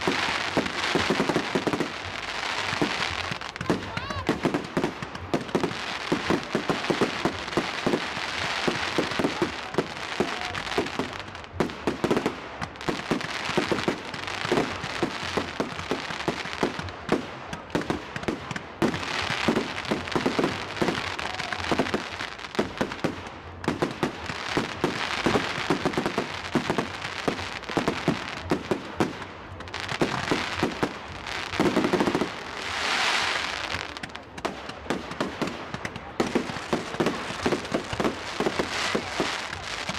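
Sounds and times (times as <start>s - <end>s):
fireworks bangs and crackles: 0.0s - 39.9s
fireworks hissing: 0.0s - 39.9s.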